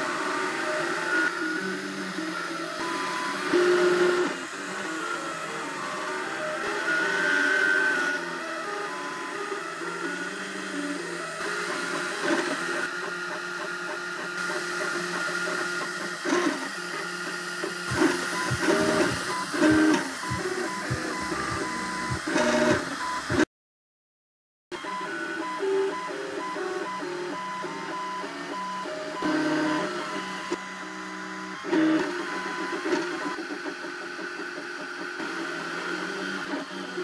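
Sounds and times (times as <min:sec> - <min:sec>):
printer stepper motors whining: 0:00.0 - 0:23.4, 0:24.8 - 0:37.0.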